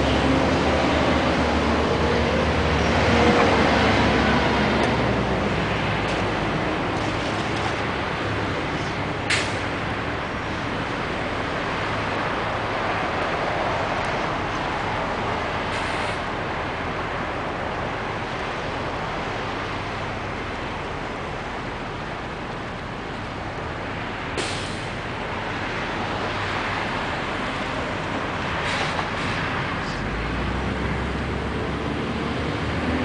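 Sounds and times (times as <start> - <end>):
cars passing on busy road: 0.0 - 33.0.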